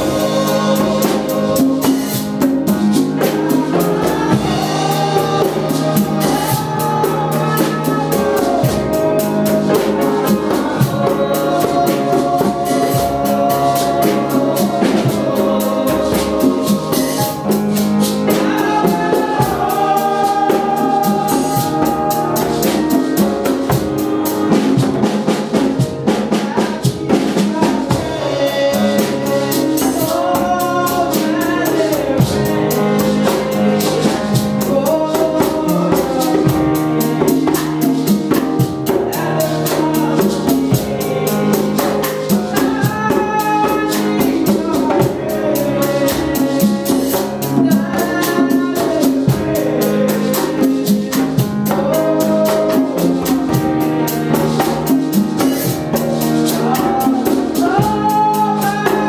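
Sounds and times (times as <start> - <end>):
group of singers: 0.0 - 59.0
instrumental accompaniment: 0.0 - 59.0
steady drum beat: 0.0 - 59.0.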